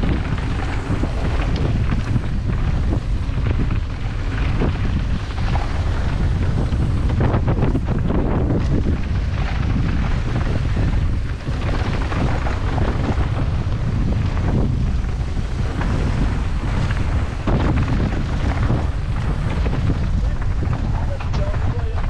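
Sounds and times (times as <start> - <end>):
bike rattling clicks: 0.0 - 22.0
tyres crunching over gravel: 0.0 - 22.0
wind buffeting microphone: 0.0 - 22.0.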